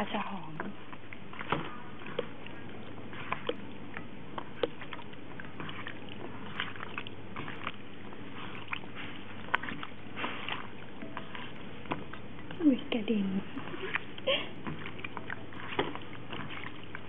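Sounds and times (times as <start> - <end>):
wet squishes of meat: 0.0 - 17.0.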